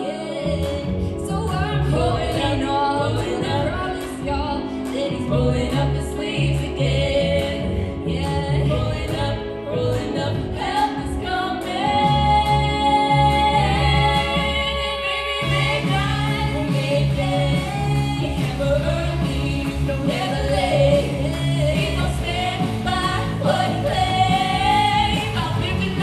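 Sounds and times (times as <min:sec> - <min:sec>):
women singing in harmony: 0:00.0 - 0:26.0
pulsing bass: 0:00.3 - 0:26.0.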